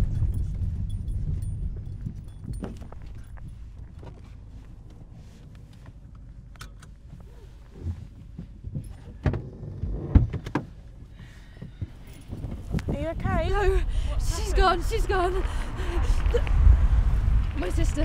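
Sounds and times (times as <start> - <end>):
low rumble: 0.0 - 10.1, 10.7 - 18.0.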